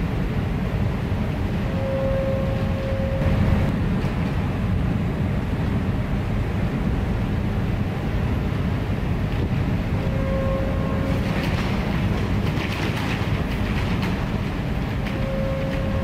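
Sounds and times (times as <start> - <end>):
ferry engine rumble: 0.0 - 16.0.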